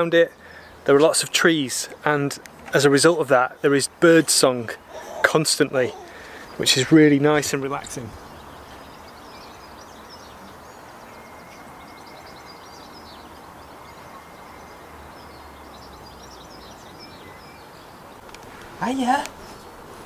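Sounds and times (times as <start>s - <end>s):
small birds chirping and singing: 0.0s - 19.8s.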